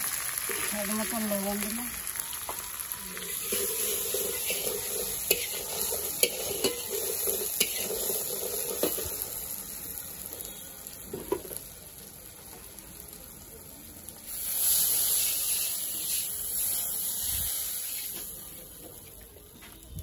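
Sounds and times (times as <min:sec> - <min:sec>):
water sizzling in hot wok: 0:00.0 - 0:20.0.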